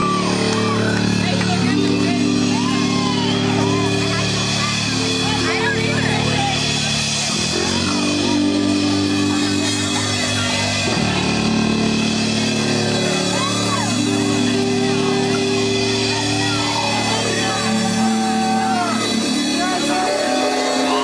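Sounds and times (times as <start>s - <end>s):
people shouting and whooping: 0.0s - 11.0s, 12.8s - 21.0s
live rock band playing: 0.0s - 21.0s.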